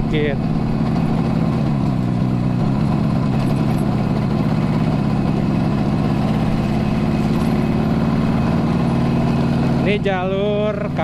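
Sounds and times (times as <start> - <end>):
two-stroke motorcycle engine running: 0.0 - 11.0.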